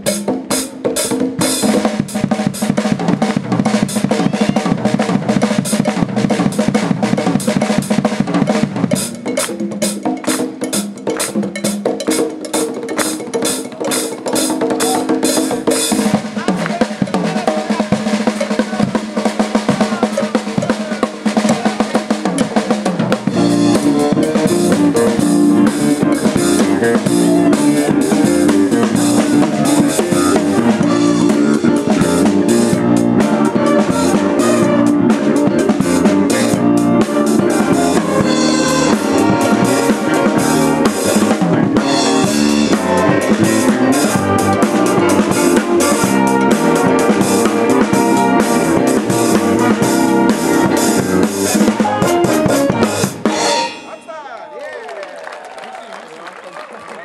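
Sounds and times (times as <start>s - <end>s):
live band with brass: 0.0s - 54.3s
drum kit played busily: 0.0s - 54.5s
keyboard: 0.0s - 54.6s
sousaphone bass line: 1.6s - 9.4s, 14.8s - 54.1s.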